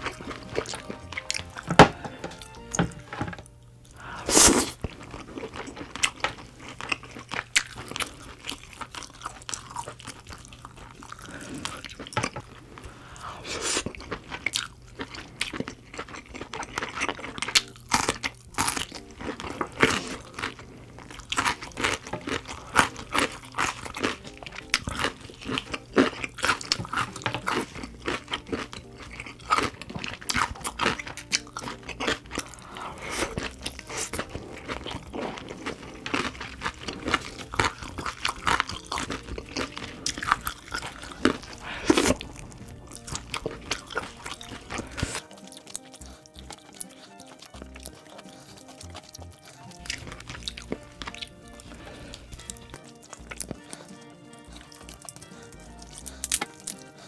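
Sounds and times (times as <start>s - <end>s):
crunching and chewing crab: 0.0s - 57.0s.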